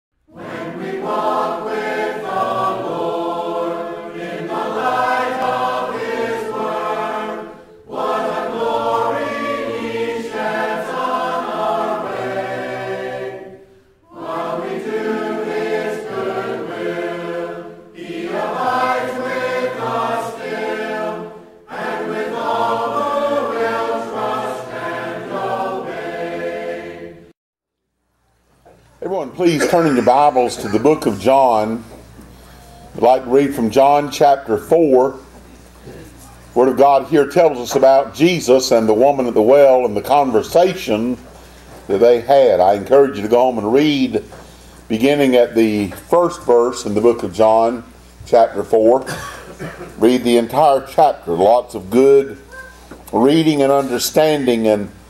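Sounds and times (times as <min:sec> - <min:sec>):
choir singing a hymn: 0:00.3 - 0:27.4, 0:29.0 - 0:32.2, 0:32.9 - 0:36.0, 0:36.6 - 0:52.4, 0:53.1 - 0:55.0.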